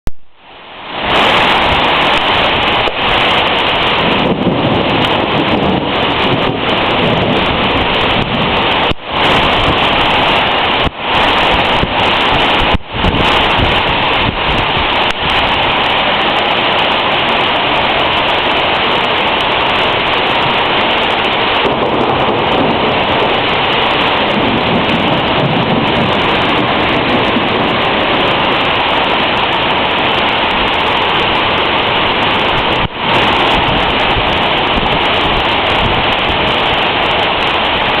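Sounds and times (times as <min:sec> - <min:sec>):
torrential rain pouring: 0:00.2 - 0:38.0.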